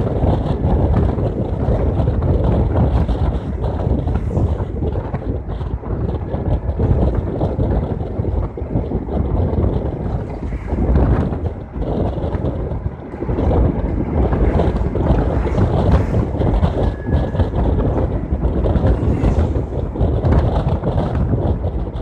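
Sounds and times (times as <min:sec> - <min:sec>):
road and engine noise: 0:00.0 - 0:22.0
wind buffeting microphone: 0:00.0 - 0:22.0.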